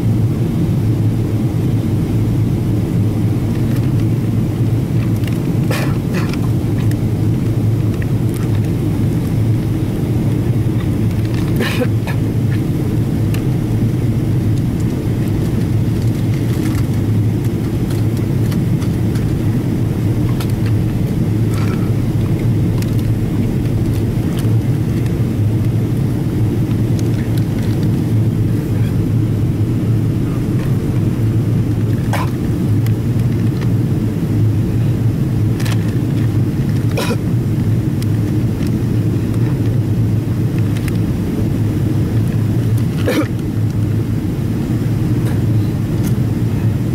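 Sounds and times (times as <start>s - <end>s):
airplane cabin rumble in flight: 0.0s - 46.9s.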